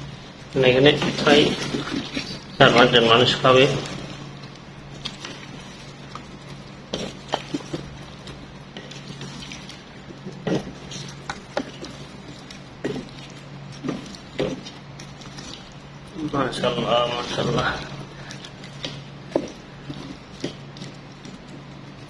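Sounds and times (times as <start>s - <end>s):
curry squishing: 0.0s - 22.0s
steady low hum: 0.0s - 22.0s.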